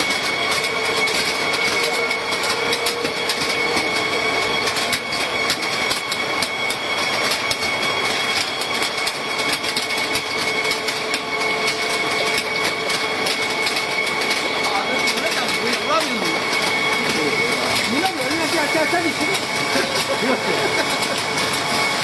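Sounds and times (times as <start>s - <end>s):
fast irregular clicking: 0.0s - 22.0s
sorting machine whining: 0.0s - 22.0s.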